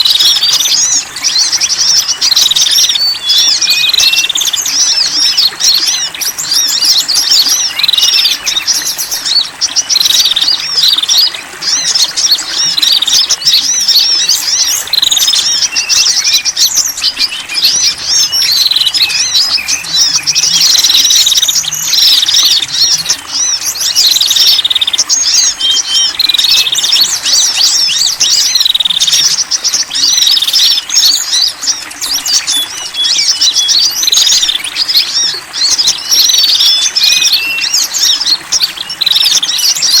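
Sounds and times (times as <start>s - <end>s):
small songbirds chirping: 0.0s - 40.0s.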